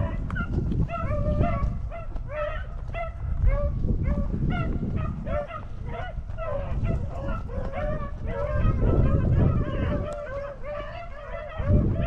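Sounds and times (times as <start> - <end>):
pack of dogs baying: 0.0 - 12.0.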